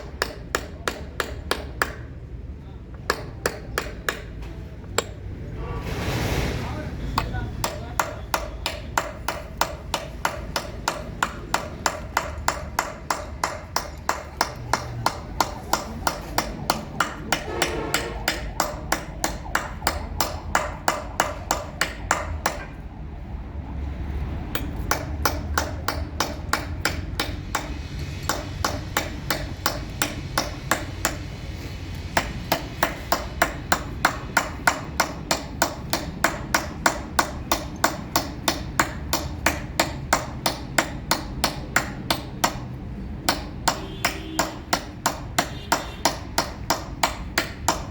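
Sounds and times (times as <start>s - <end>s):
hammer striking chisel on stone: 0.0s - 2.1s, 2.9s - 5.2s, 7.2s - 22.8s, 24.5s - 47.9s.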